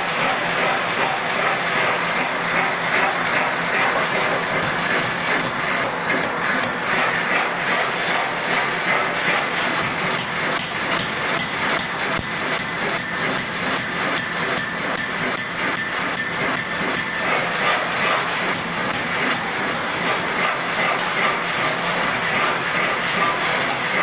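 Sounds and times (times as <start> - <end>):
forging machinery rattling: 0.0 - 24.0.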